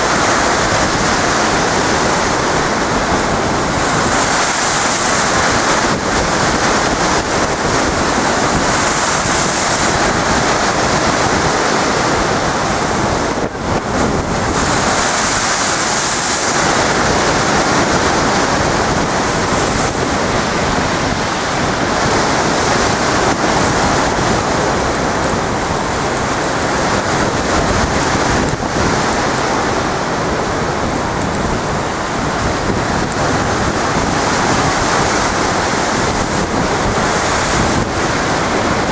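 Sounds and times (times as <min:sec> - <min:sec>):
waves breaking against sea wall: 0:00.0 - 0:38.9.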